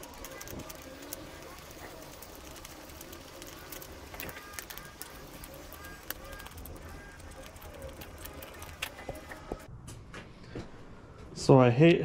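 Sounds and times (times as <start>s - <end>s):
birds chirping: 0.0s - 9.7s
wiring connectors clicking: 0.0s - 9.7s.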